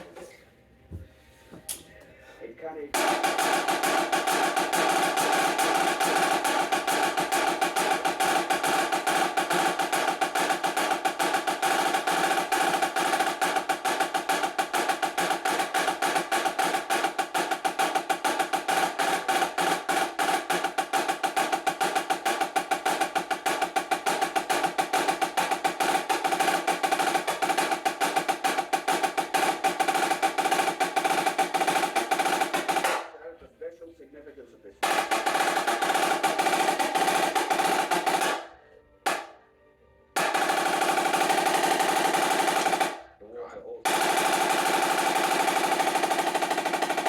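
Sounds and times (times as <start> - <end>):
snare drum rolls: 2.9 - 33.2, 34.8 - 39.4, 40.2 - 43.1, 43.8 - 47.0.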